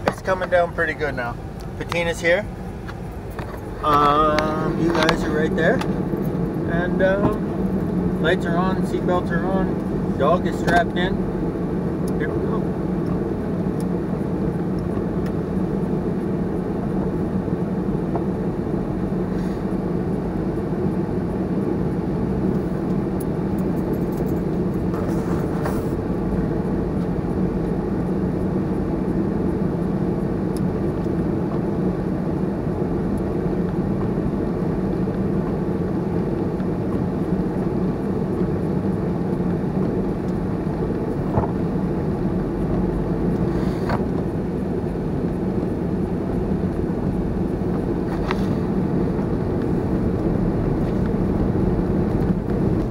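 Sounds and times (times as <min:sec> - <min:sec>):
car engine and tyre drone: 0:00.0 - 0:52.9.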